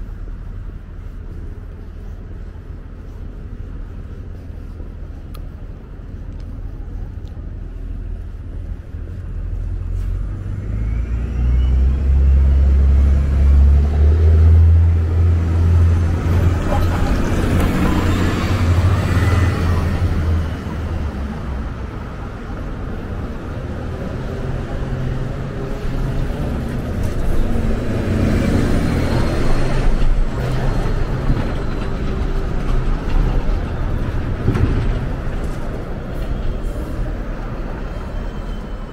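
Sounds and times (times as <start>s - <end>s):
low traffic rumble: 0.0s - 38.9s
vehicles passing: 0.0s - 38.9s.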